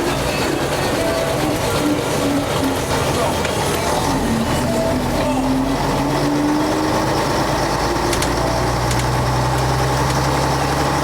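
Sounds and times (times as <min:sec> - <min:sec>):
bus diesel engine running: 0:00.0 - 0:11.0
engine whine: 0:00.0 - 0:11.0.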